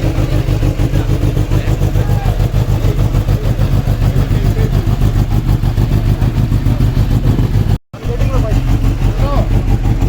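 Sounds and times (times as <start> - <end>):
motorcycle engine idling loudly: 0.0 - 10.0.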